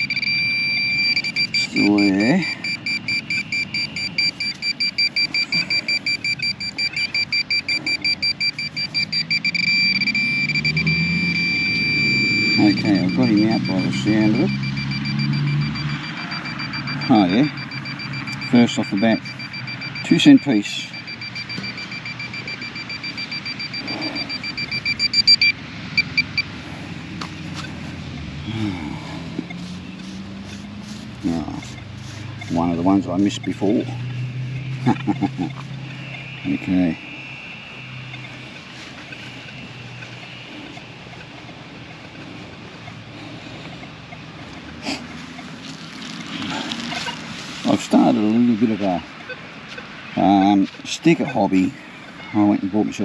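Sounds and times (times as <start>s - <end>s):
metal detector beeping: 0.0s - 26.8s, 28.6s - 45.6s, 46.4s - 51.5s.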